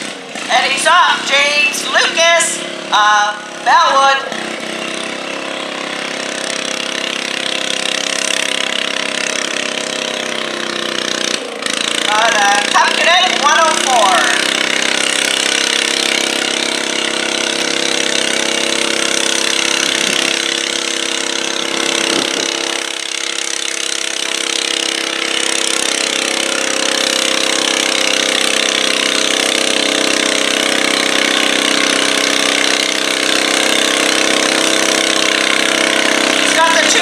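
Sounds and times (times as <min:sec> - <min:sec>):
tractor engine at full throttle: 0:00.0 - 0:37.0.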